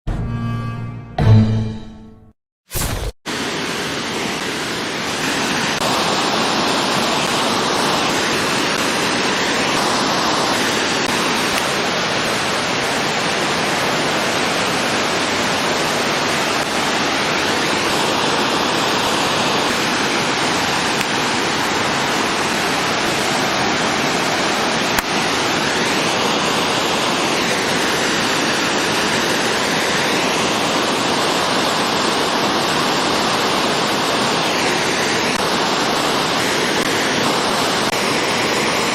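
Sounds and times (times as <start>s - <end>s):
waterfall rushing: 3.3s - 38.9s.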